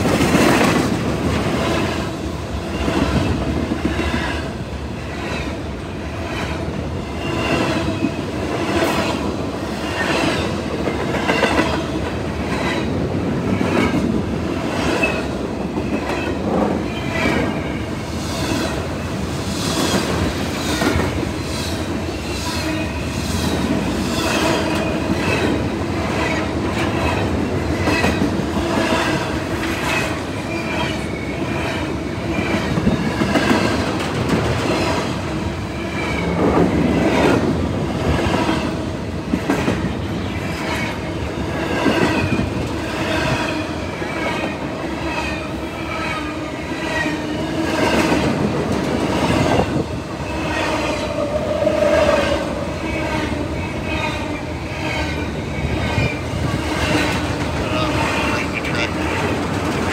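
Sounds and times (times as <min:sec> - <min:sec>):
train wheels rumbling over rail joints: 0:00.0 - 0:59.9.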